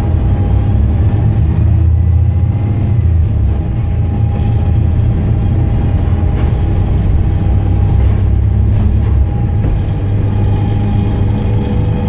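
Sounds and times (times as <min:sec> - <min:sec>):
bus engine rumble: 0:00.0 - 0:12.0
thin constant whine: 0:00.0 - 0:12.0.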